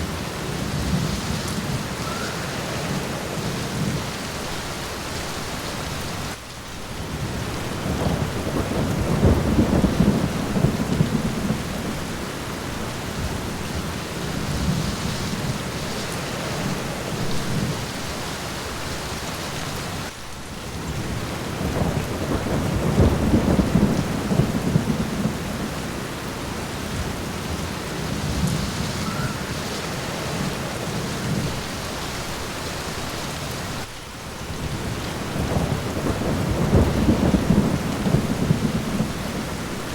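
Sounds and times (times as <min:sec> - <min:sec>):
low rolling thunder: 0:00.0 - 0:05.0, 0:06.9 - 0:18.2, 0:20.6 - 0:39.9
steady rain: 0:00.0 - 0:39.9.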